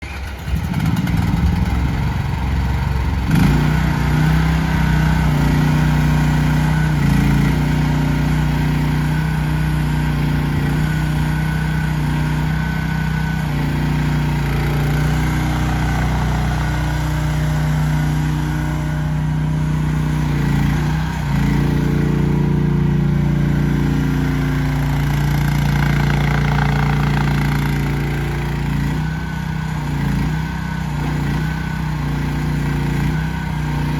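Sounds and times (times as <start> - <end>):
mini excavator engine running: 0.0 - 33.9.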